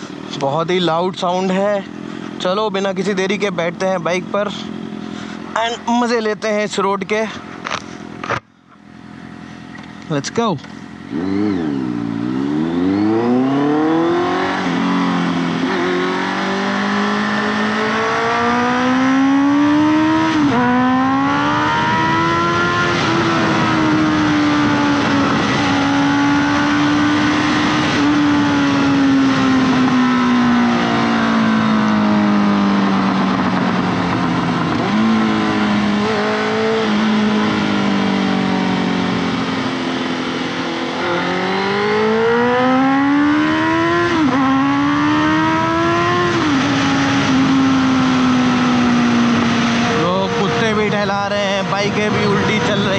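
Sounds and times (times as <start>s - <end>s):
motorcycle accelerating through gears: 1.1s - 5.6s, 7.3s - 52.9s.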